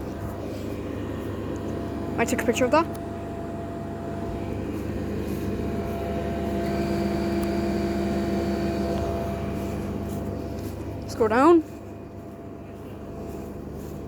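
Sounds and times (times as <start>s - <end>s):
boiler fan droning: 0.0s - 14.0s.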